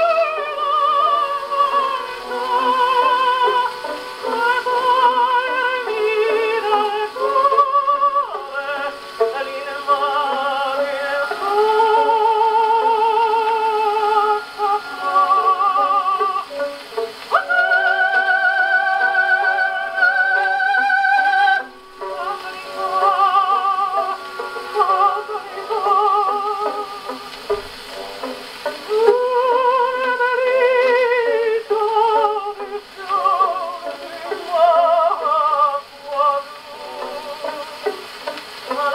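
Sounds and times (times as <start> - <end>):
gramophone record singing: 0.0 - 38.9.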